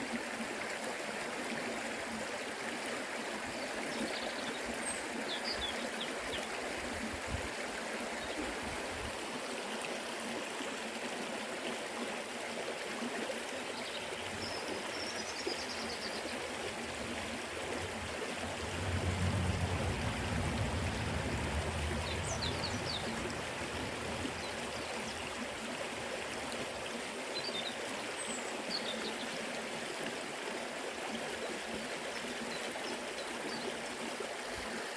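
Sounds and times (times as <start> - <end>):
river water rushing and babbling: 0.0 - 34.9.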